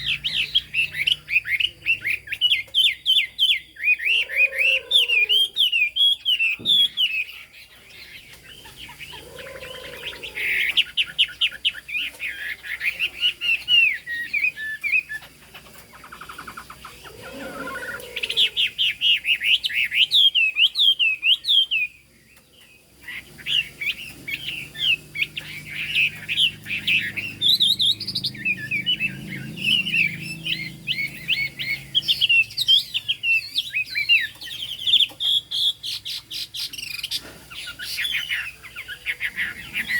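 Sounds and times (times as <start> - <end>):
bird singing whistled song: 0.0 - 15.3, 16.2 - 39.9.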